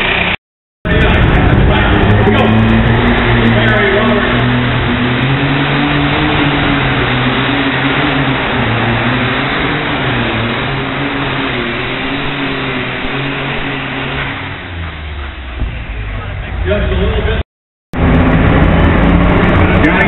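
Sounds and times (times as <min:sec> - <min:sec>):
pulling tractor engine at high revs: 0:00.0 - 0:17.0, 0:17.9 - 0:20.0.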